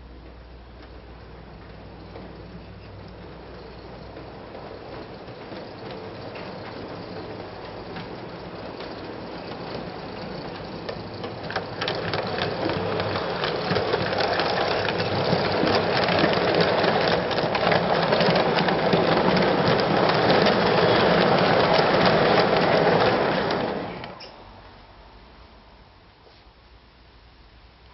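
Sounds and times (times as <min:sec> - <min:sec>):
model train running on track: 0:00.0 - 0:24.3.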